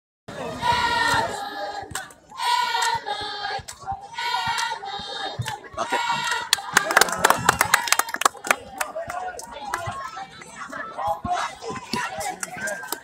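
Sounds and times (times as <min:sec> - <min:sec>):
crowd chanting a cheer: 0:00.3 - 0:13.0.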